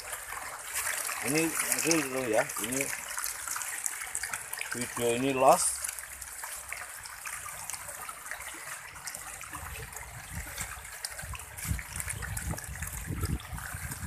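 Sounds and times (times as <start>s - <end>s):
fish splashing at water surface: 0.0s - 14.0s.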